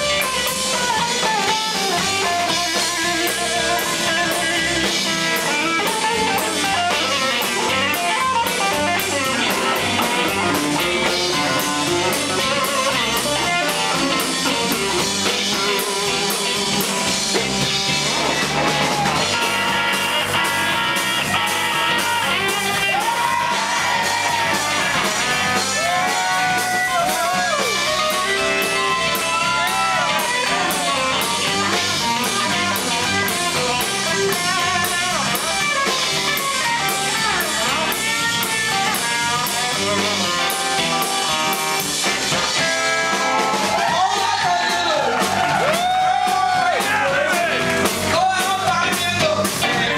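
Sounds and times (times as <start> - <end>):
electric guitar solo: 0.0 - 48.9
live blues-rock band: 0.0 - 49.9.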